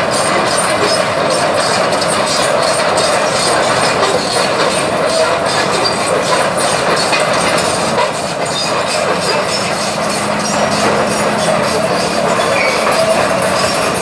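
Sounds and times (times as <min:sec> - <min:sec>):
diesel engine running: 0:00.0 - 0:14.0
excavator tracks clanking: 0:00.0 - 0:14.0.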